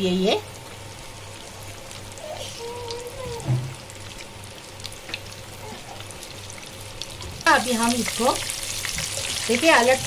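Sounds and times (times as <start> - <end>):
oil sizzling and crackling: 0.0 - 10.0.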